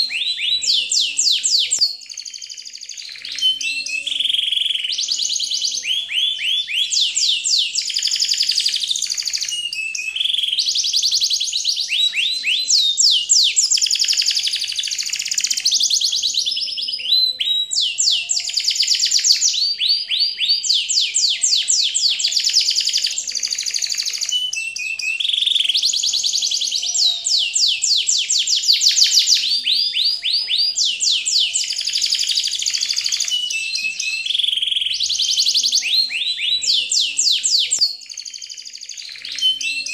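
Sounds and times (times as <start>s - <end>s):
rapid trilling chirps: 0.0s - 39.9s.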